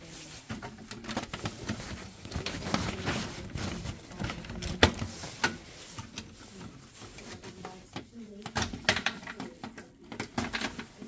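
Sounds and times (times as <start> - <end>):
small clicks and rustles of wires: 0.0 - 11.0.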